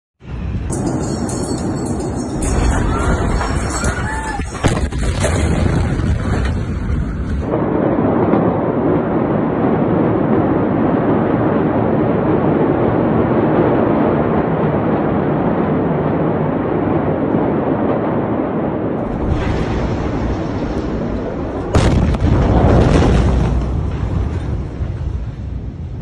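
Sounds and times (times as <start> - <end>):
steady rumbling noise: 0.2 - 26.0.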